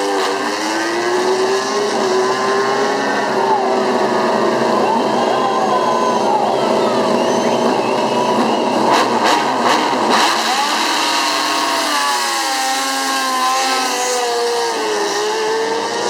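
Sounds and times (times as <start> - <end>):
racing motorcycles revving: 0.0 - 16.0.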